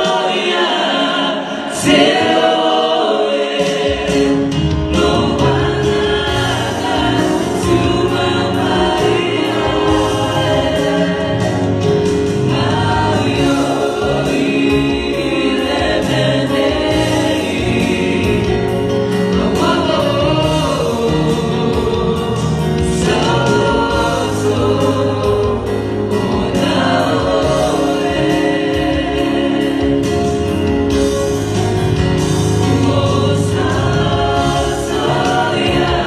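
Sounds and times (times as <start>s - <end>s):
group singing gospel song: 0.0s - 36.0s.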